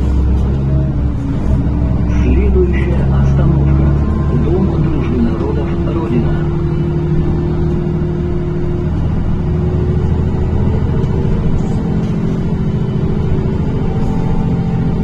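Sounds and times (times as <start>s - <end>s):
bus engine and drivetrain hum: 0.0s - 15.0s
road rumble: 0.0s - 15.0s.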